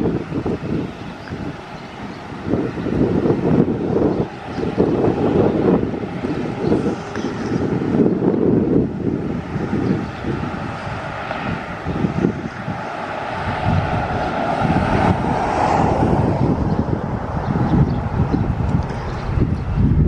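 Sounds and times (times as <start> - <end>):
wind buffeting microphone: 0.0 - 20.0
wind rushing: 0.0 - 20.0.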